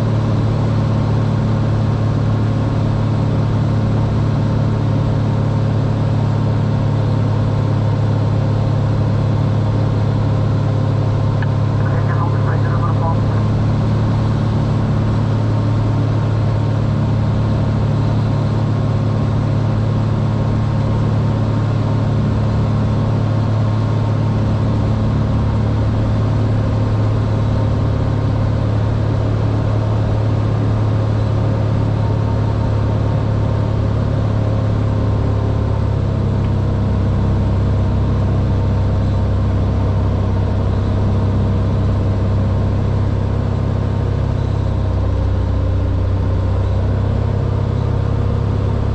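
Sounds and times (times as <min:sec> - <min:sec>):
airplane engine drone in cabin: 0:00.0 - 0:48.9.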